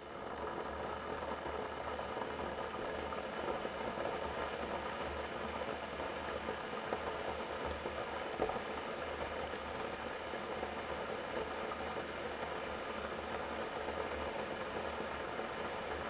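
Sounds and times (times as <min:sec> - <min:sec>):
electric kettle heating water: 0:00.0 - 0:16.0.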